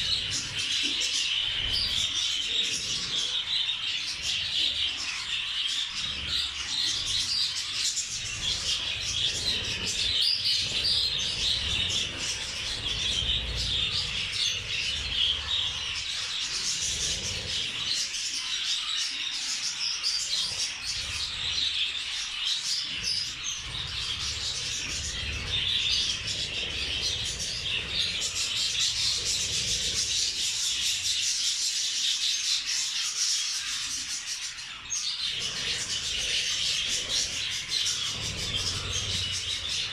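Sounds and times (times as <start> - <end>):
flock of birds chattering: 0.0 - 39.9.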